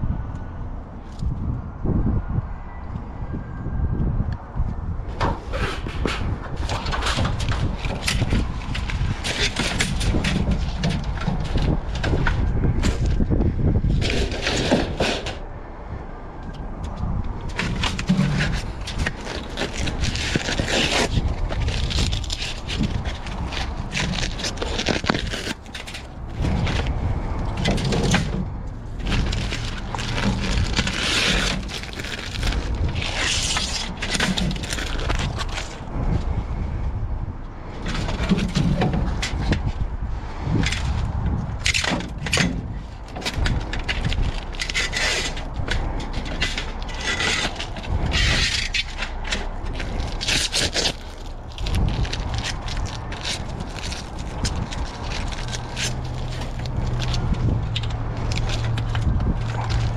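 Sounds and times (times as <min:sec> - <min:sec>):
trash rustling and knocking: 0:05.2 - 0:15.4, 0:17.0 - 0:36.2, 0:37.8 - 0:39.8, 0:40.4 - 0:59.9.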